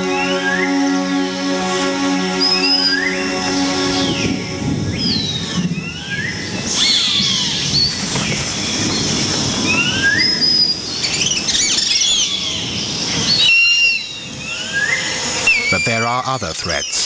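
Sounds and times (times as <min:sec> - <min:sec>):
birds whistling calls: 0:00.0 - 0:17.0.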